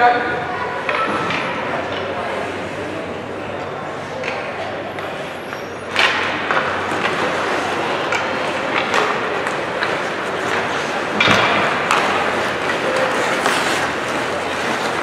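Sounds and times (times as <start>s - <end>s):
crowd noise: 0.0s - 15.0s
skating noise: 0.2s - 15.0s
hockey sticks and puck clacking: 0.8s - 3.0s, 3.6s - 15.0s.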